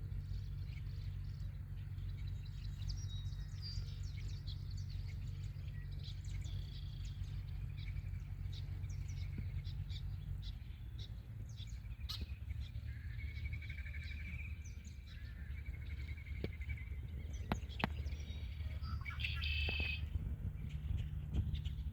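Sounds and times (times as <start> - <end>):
low rumble: 0.0 - 21.9
small birds chirping and trilling: 0.0 - 21.9.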